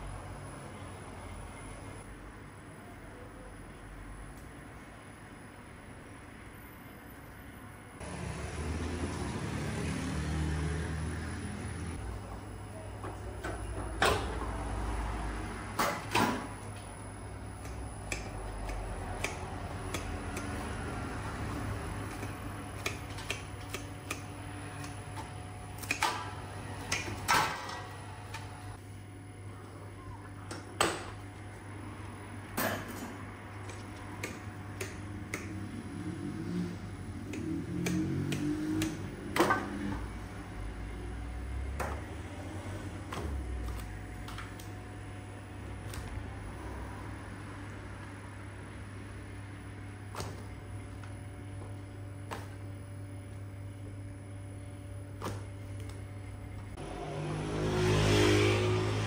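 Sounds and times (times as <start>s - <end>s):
steady low hum: 0.0s - 57.6s.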